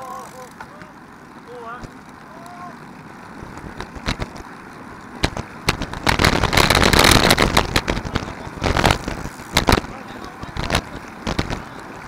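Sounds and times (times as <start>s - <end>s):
bicycle riding rattle: 0.0s - 12.0s.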